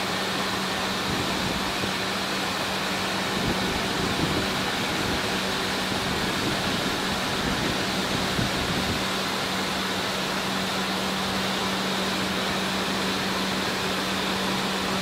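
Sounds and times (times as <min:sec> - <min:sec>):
car wash brushes and water rushing: 0:00.0 - 0:15.0.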